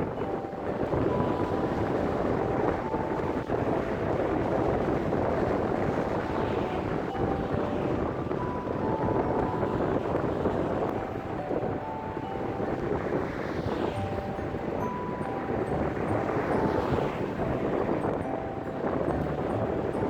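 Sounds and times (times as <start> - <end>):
vehicle and road noise: 0.0 - 20.0
wind buffeting microphone: 0.0 - 20.0.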